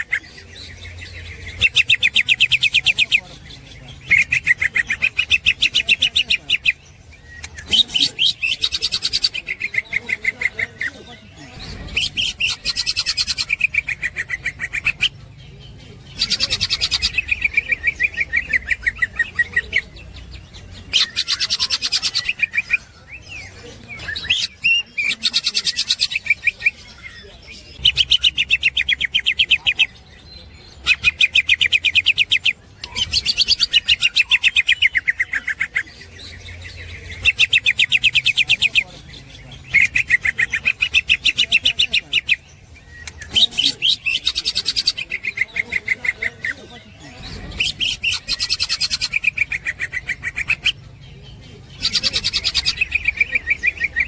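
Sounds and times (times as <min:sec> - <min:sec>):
bird singing fast chattering song: 0:00.0 - 0:54.0.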